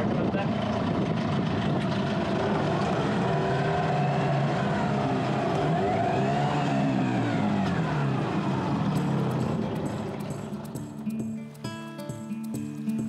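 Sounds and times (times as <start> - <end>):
outboard motor running and revving: 0.0 - 10.8.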